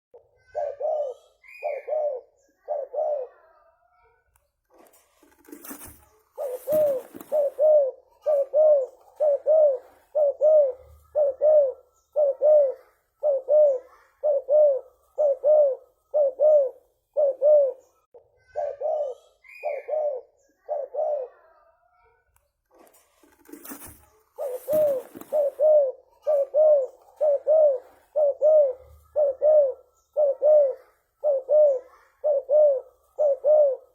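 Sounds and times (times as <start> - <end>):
dove cooing: 0.2 - 3.6, 5.2 - 21.6, 23.3 - 33.9.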